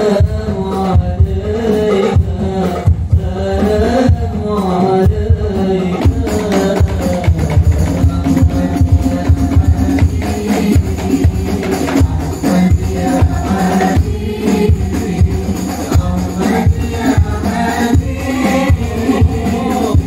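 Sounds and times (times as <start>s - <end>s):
hand percussion beats: 0.0s - 20.0s
men singing into microphones: 0.0s - 20.0s.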